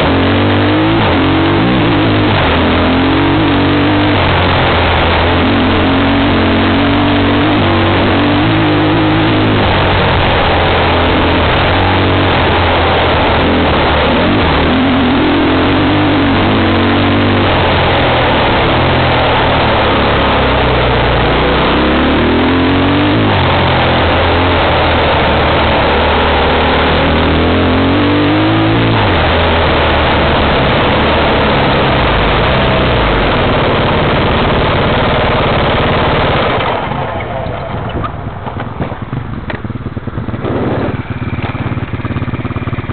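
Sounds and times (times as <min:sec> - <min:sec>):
loud steady rushing noise: 0:00.0 - 0:42.9
off-road vehicle engine: 0:00.0 - 0:42.9.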